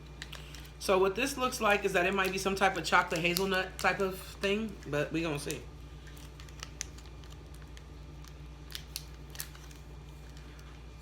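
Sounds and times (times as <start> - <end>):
low steady hum: 0.0 - 11.0
wrapper crinkling: 0.0 - 11.0.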